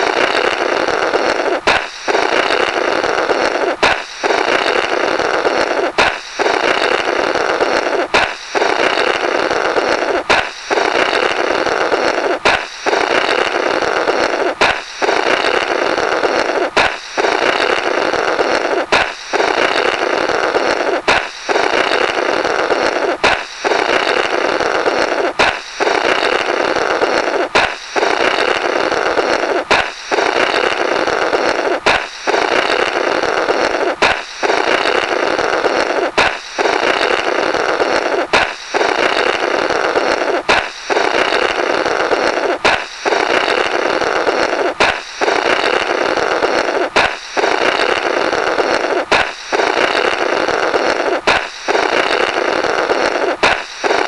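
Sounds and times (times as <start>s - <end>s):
balloon popping: 0.0s - 54.0s
flapping rasp through rubber: 0.0s - 54.0s.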